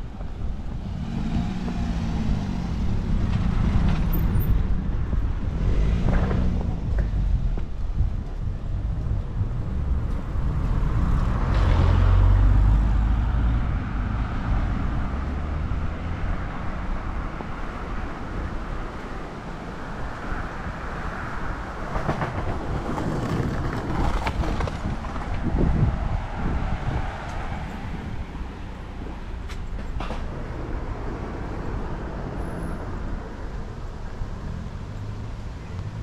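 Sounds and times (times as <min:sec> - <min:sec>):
steady traffic noise: 0:00.0 - 0:36.0.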